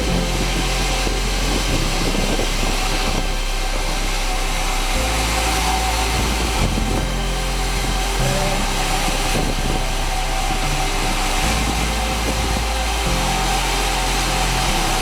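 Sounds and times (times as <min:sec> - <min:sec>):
sawmill machinery drone: 0:00.0 - 0:15.0.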